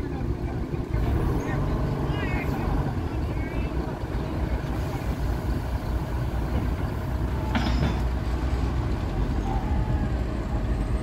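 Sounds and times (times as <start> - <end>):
ferry engine rumbling: 0.0 - 11.0.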